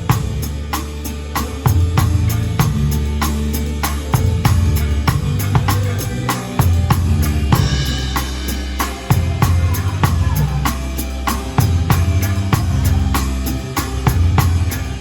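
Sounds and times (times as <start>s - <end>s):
backing song with low bass: 0.0s - 15.0s
cymbal crash: 0.0s - 15.0s
drum kit playing a steady beat: 0.0s - 15.0s.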